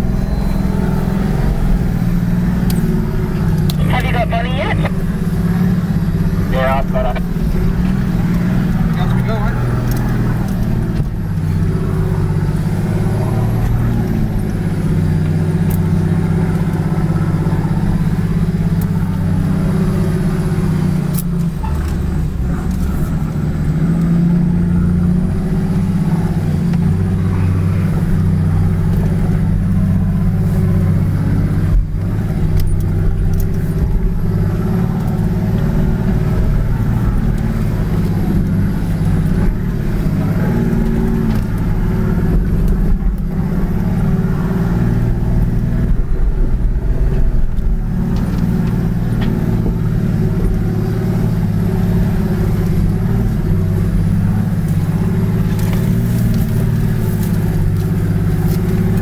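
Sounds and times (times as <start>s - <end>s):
vehicle engine at low revs: 0.0s - 59.0s.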